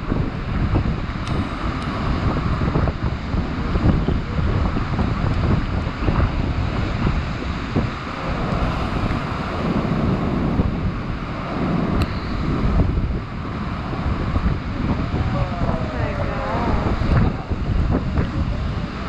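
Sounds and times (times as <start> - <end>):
ocean surf breaking on rocks: 0.0 - 19.0
wind buffeting microphone: 0.0 - 19.0.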